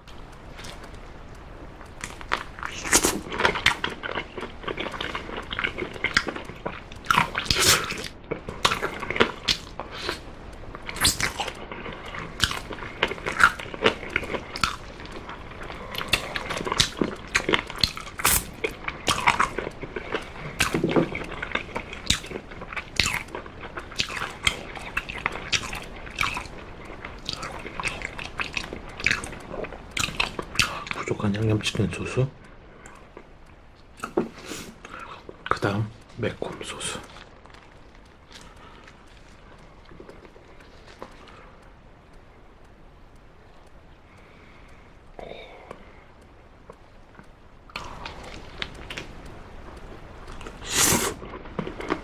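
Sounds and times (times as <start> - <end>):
close chewing and mouth clicks: 0.0 - 52.0.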